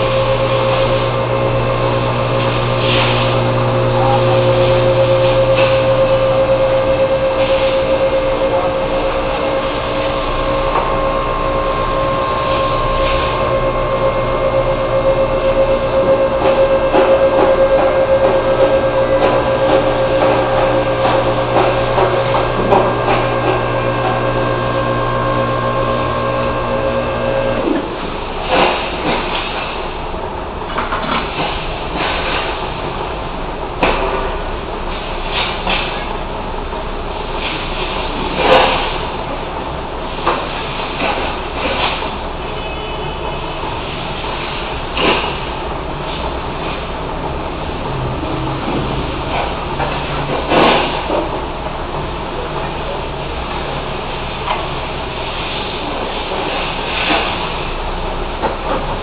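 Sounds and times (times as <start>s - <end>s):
machine humming: 0.0s - 59.0s.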